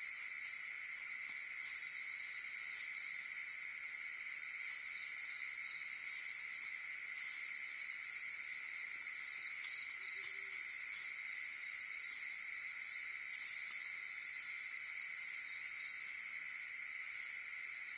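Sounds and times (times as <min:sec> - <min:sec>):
insect chorus trilling: 0:00.0 - 0:17.9.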